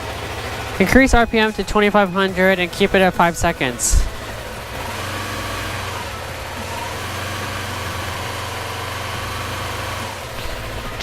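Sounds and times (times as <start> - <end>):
motorcycle engine at raised revs: 0.0 - 11.0.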